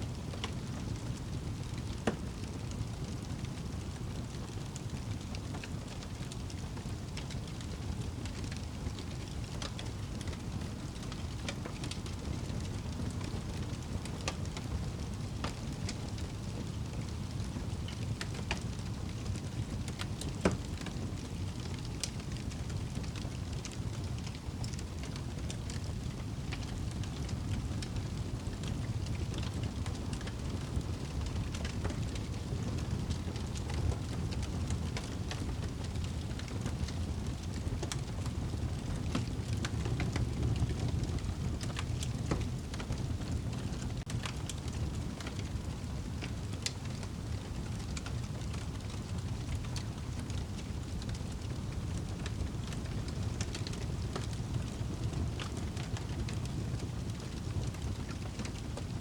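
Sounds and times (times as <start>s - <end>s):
fire crackling and popping: 0.1s - 59.0s
wood fire burning: 0.1s - 59.0s.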